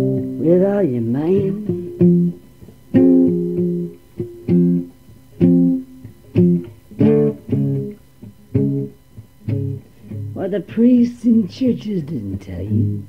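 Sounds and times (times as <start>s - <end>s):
guitar strummed chords: 0.0s - 11.0s, 12.4s - 13.0s.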